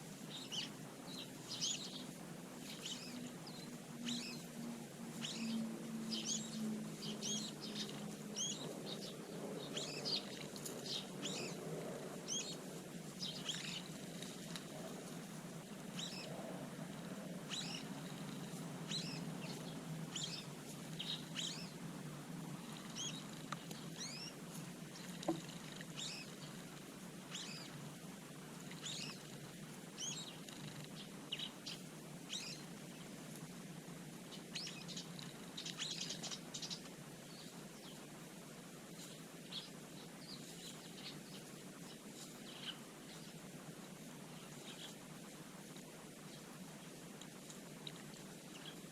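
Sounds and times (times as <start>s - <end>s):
small birds chirping: 0.0s - 48.9s
steady low hum: 0.0s - 48.9s.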